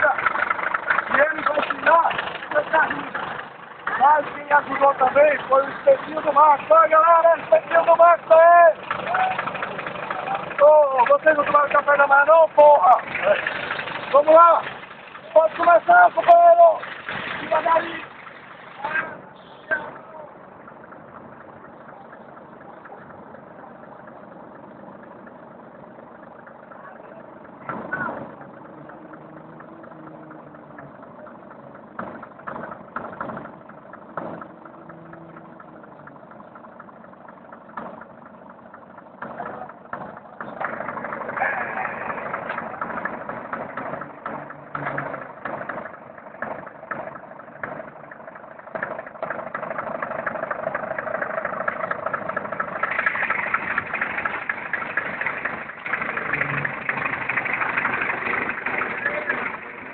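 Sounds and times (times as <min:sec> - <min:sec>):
knocks and clunks: 0:00.0 - 0:59.9
vehicle engine running: 0:00.0 - 0:59.9.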